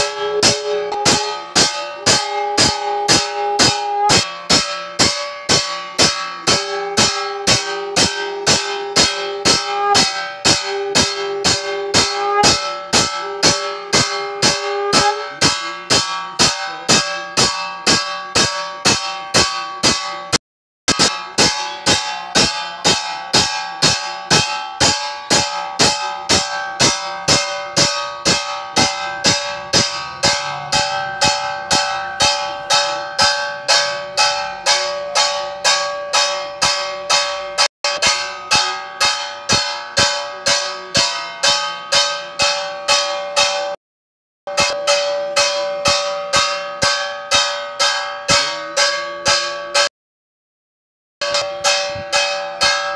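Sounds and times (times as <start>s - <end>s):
metal bell struck rhythmically: 0.0s - 43.8s, 44.5s - 49.9s, 51.2s - 52.9s.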